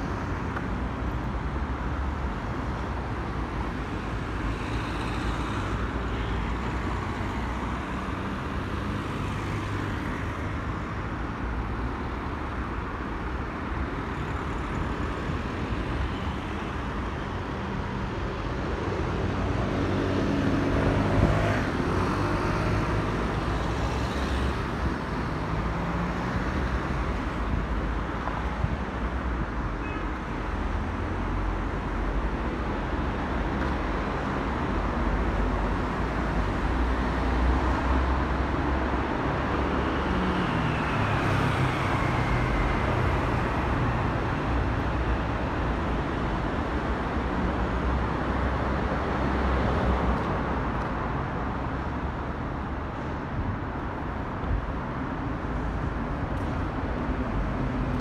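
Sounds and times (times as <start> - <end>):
road traffic: 0.0 - 58.0.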